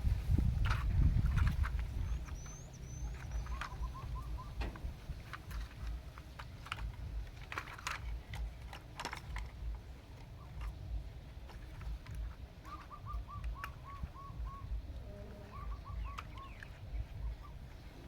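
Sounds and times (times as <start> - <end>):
birds calling: 0.0 - 18.0
steady low rumble: 0.0 - 18.0.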